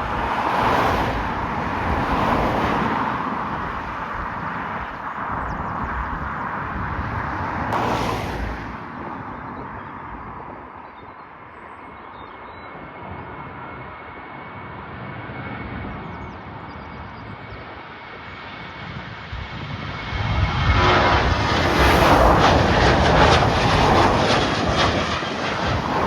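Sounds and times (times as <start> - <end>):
distant jet engines: 0.0 - 26.0.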